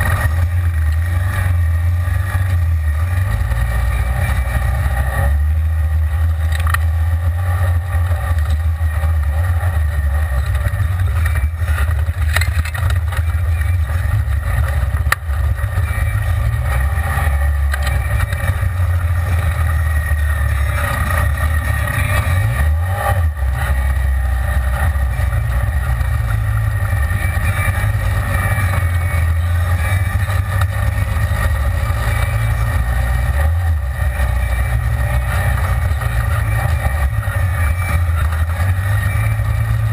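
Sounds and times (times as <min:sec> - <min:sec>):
vehicle engine drone: 0:00.0 - 0:39.9.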